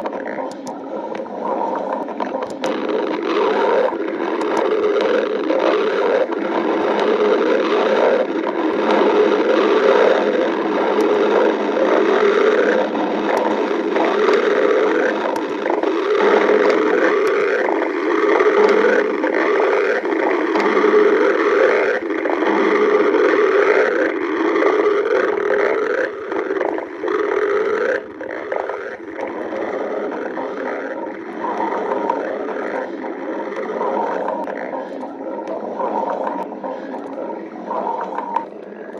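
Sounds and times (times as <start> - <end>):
stomach growling: 0.0 - 38.9.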